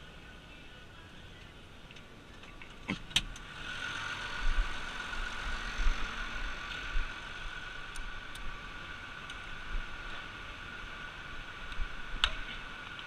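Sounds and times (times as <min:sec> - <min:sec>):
constant whine: 0:00.0 - 0:13.0.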